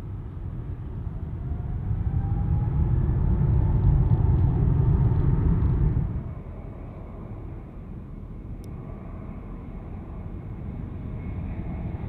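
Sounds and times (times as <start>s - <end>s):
faint engine whine: 0.0s - 12.0s
jet engines rumbling: 0.0s - 12.0s.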